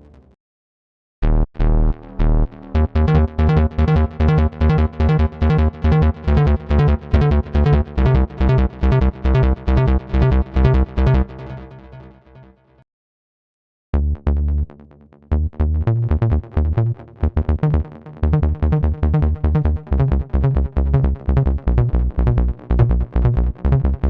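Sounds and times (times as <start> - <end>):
synthesizer bass notes: 1.2 - 12.2, 14.0 - 24.0.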